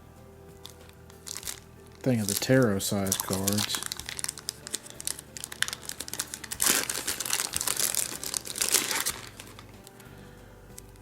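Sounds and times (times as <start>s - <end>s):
plastic wrapping crinkling: 0.6s - 10.0s.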